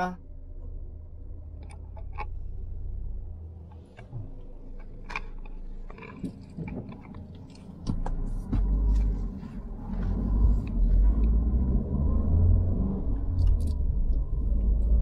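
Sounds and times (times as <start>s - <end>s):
car rumble from inside cabin: 0.0s - 15.0s.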